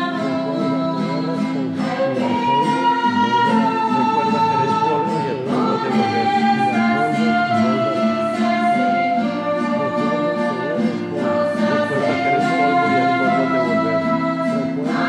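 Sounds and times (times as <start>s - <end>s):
congregation singing a hymn: 0.0s - 15.0s
instrumental held chords: 0.0s - 15.0s.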